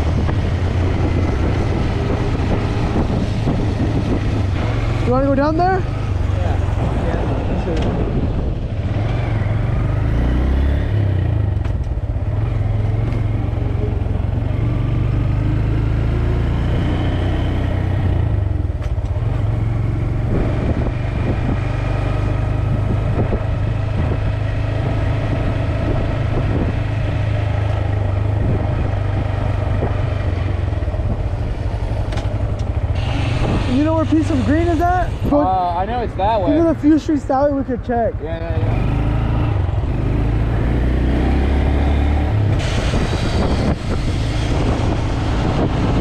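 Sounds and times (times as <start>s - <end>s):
wind rumble on microphone: 0.0s - 13.6s, 17.7s - 37.0s, 38.6s - 46.0s
motorcycle running: 0.0s - 46.0s.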